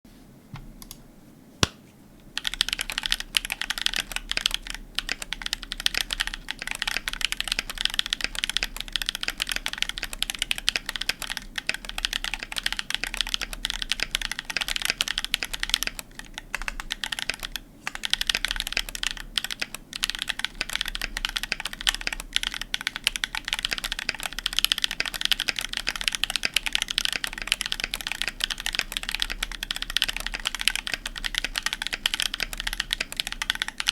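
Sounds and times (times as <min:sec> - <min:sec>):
mechanical keyboard typing: 0:02.3 - 0:33.9.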